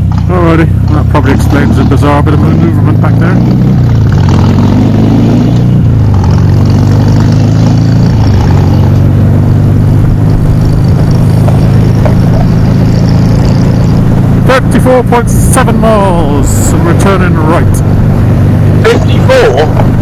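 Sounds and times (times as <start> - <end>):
motorcycle engine revving: 0.0 - 20.0
wind and road noise: 0.0 - 20.0.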